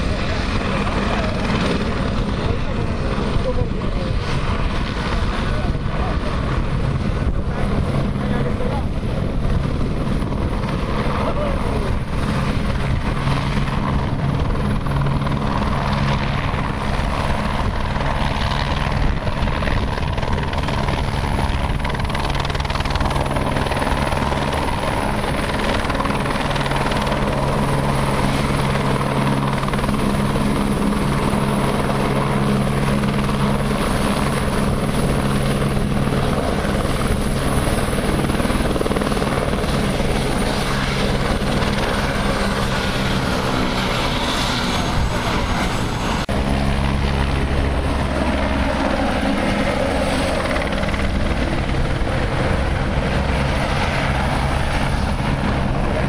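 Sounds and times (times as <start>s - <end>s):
helicopter rotor hovering: 0.0s - 56.0s
high turbine whine: 0.0s - 56.0s.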